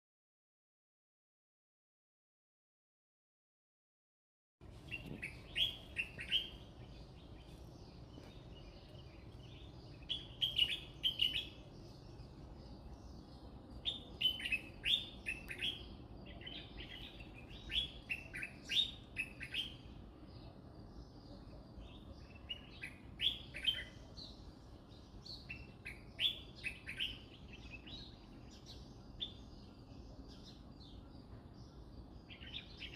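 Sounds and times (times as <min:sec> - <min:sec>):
birds chirping: 0:04.6 - 0:32.9
steady low background noise: 0:04.6 - 0:32.9.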